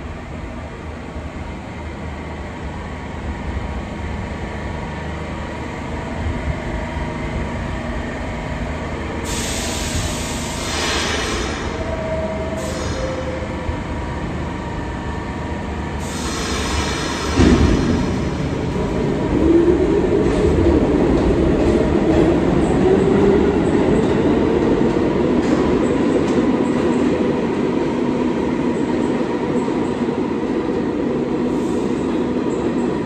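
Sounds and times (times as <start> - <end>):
subway train rumble: 0.0 - 33.0.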